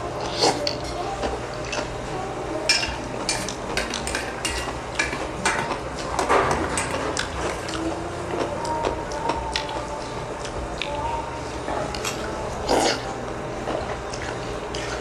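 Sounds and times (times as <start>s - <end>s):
utensils clicking and scraping dishes: 0.2s - 2.0s, 2.6s - 11.0s, 11.6s - 15.0s.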